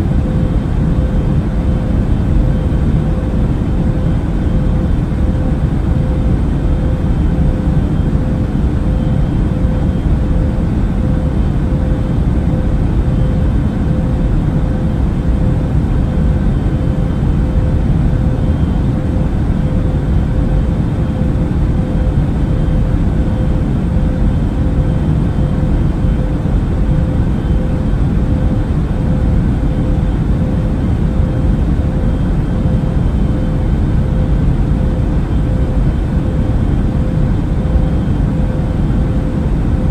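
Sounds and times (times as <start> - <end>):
airliner engines and airflow rumble: 0.0 - 39.9
faint steady hum: 0.0 - 39.9.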